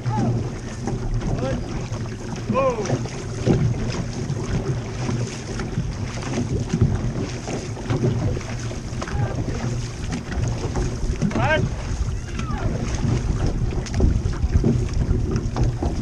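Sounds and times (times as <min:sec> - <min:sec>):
paddling: 0:00.0 - 0:16.0
water rushing and splashing: 0:00.0 - 0:16.0
wind on microphone: 0:00.0 - 0:16.0.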